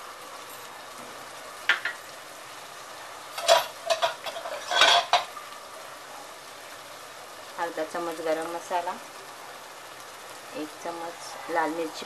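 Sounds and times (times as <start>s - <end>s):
faint sizzle of frying: 0.0s - 12.0s.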